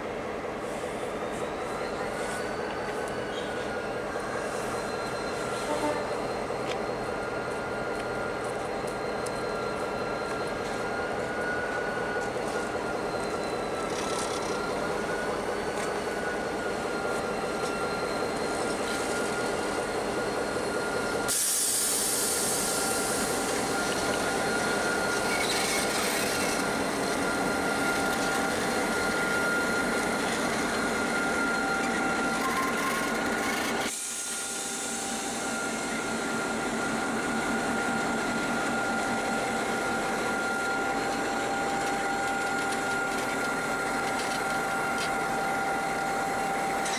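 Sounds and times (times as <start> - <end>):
locomotive engines running: 0.0 - 46.9.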